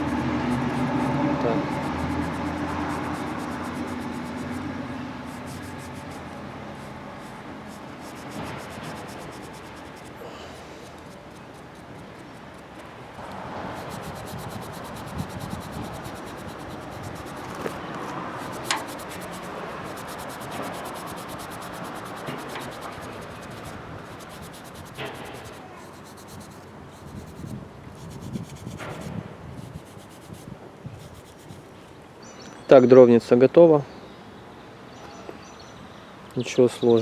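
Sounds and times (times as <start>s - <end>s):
hand rubbing metal surface: 0.0s - 13.0s, 13.7s - 31.7s.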